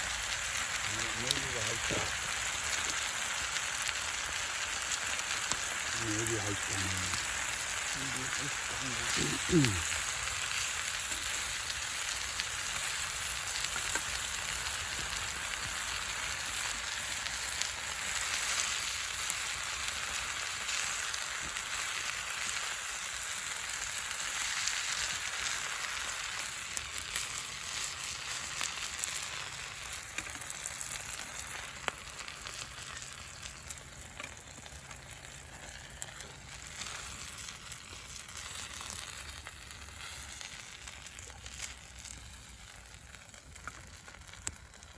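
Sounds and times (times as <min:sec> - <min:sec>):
food sizzling in a hot pan: 0:00.0 - 0:44.9.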